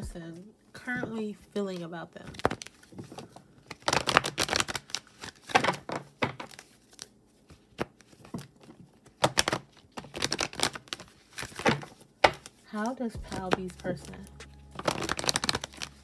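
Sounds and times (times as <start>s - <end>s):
cards being shuffled: 1.7s - 16.0s.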